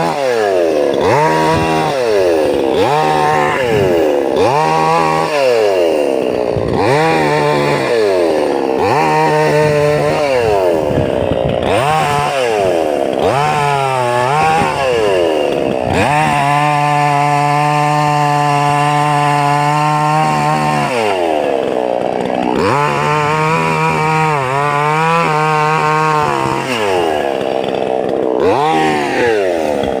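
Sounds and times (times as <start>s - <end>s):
chainsaw engine revving: 0.0s - 30.0s.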